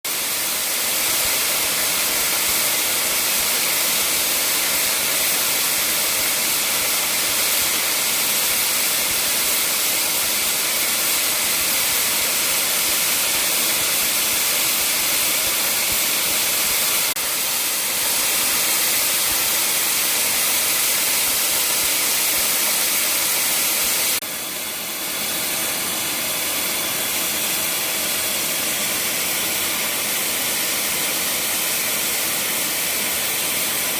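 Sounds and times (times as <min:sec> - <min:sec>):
welding arc sizzling hiss: 0:00.1 - 0:33.9.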